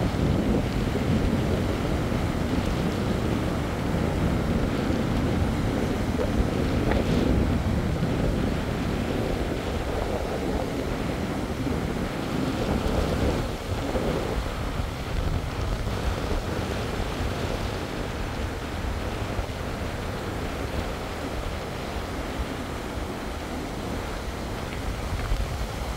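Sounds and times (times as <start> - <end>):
surf breaking on beach: 0.0 - 25.9
wind buffeting microphone: 0.0 - 25.9.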